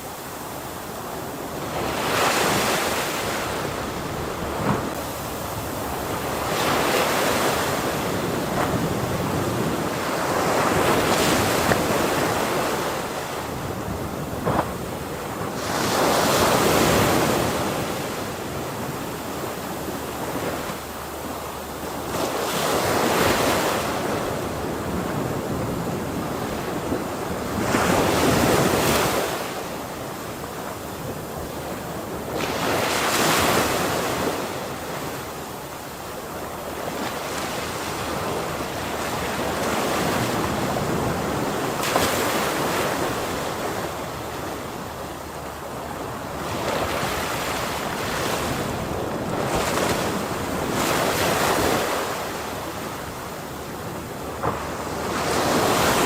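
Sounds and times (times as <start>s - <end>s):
ocean waves crashing on shore: 0.0s - 56.0s.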